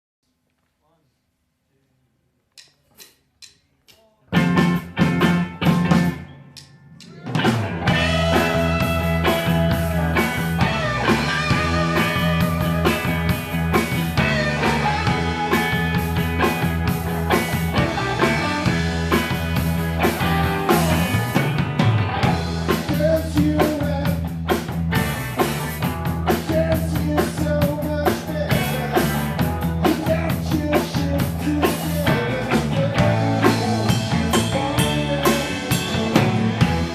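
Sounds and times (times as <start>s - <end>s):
drums: 2.6s - 36.9s
rock band playing live: 4.3s - 36.9s.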